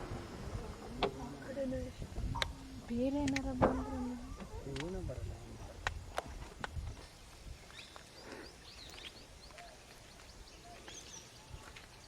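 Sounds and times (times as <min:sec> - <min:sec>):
faint birds chirping: 0:00.1 - 0:12.0.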